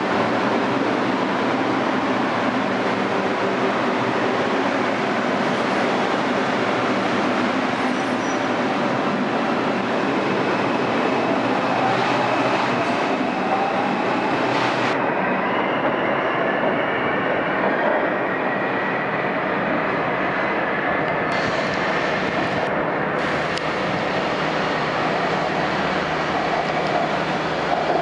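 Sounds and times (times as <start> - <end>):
subway train rumbling on rails: 0.0 - 28.0.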